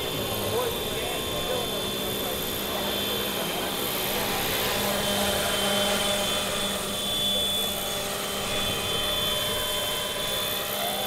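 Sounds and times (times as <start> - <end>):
electric model helicopter whining: 0.0 - 11.0.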